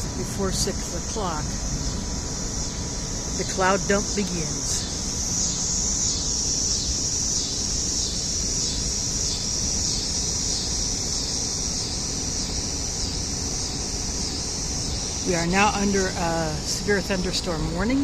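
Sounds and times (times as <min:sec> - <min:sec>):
air conditioner humming: 0:00.0 - 0:18.0
cicadas buzzing: 0:00.0 - 0:18.0.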